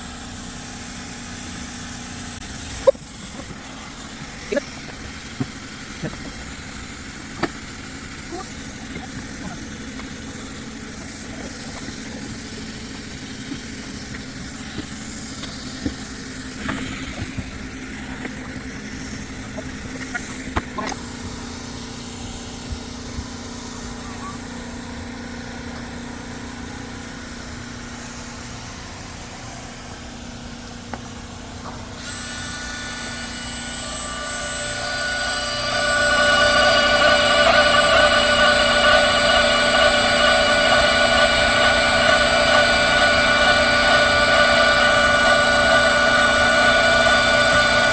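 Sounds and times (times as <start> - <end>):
machine humming: 0.0 - 47.9
loud whine: 1.6 - 47.9.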